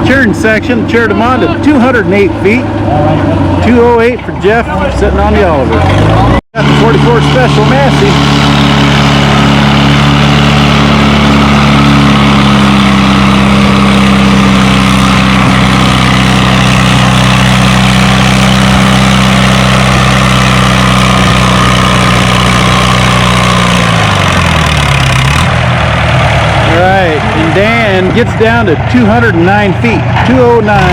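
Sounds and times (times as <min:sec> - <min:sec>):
tractor engine running hard: 0:00.0 - 0:30.9.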